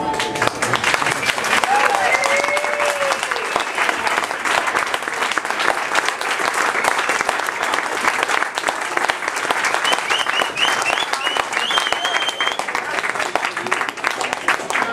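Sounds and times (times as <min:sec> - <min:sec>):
crowd applauding: 0:00.0 - 0:14.9.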